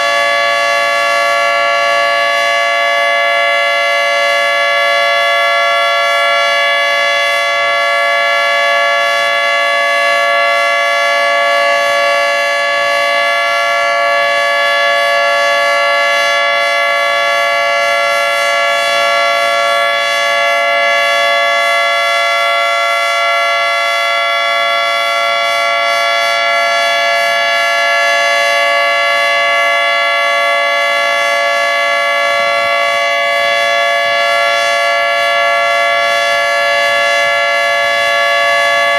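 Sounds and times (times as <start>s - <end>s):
warning siren steady chord: 0.0s - 38.9s.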